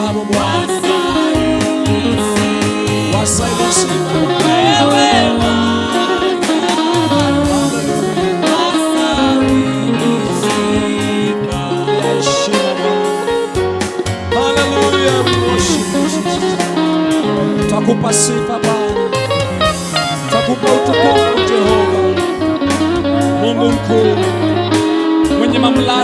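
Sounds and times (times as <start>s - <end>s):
church band playing: 0.0s - 26.0s
person singing: 0.0s - 26.0s.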